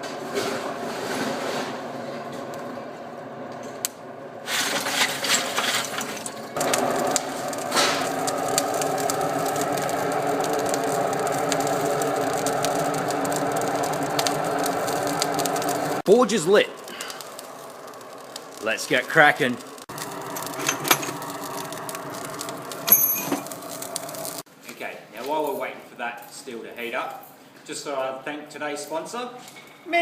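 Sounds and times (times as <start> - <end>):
forge blower humming: 0.0 - 24.5.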